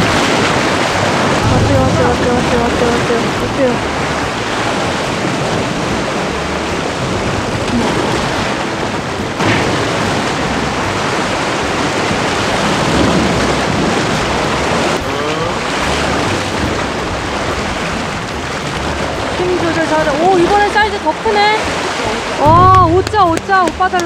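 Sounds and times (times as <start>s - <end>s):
sea surf rushing: 0.0s - 24.0s
wind buffeting microphone: 0.0s - 24.0s.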